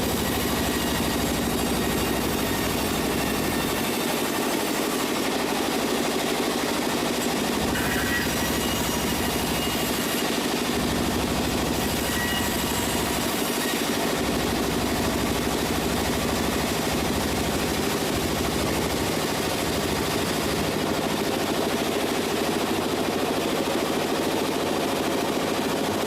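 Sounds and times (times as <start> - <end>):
engine-like drone: 0.0 - 26.0
sawmill machinery rattling: 0.0 - 26.0.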